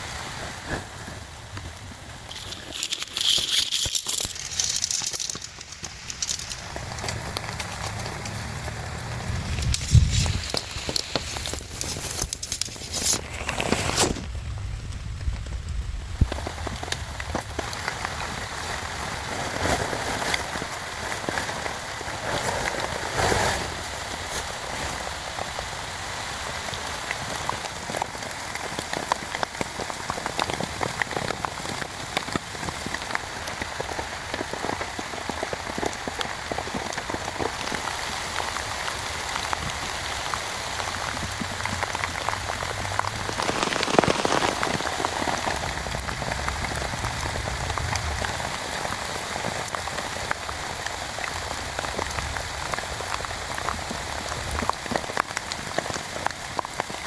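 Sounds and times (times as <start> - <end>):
heavy rain falling: 0.0 - 13.0, 14.3 - 57.0
raindrops tapping on a surface: 3.8 - 12.8, 15.3 - 23.0, 25.1 - 57.0.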